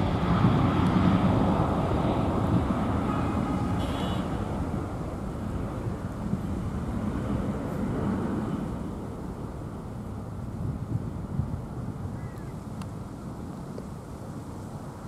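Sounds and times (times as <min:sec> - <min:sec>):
distant jet engines rumble: 0:00.0 - 0:15.0.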